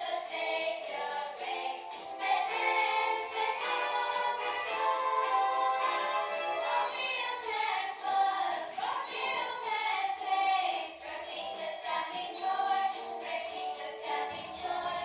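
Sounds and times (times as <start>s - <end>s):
backing music: 0.0s - 15.0s
voices singing: 0.0s - 15.0s.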